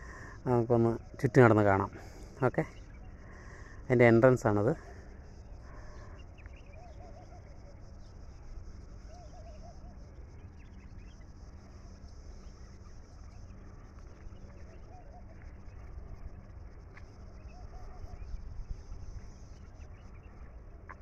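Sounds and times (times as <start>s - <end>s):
faint bird chirps: 0.0s - 21.0s
steady low hum: 0.0s - 21.0s.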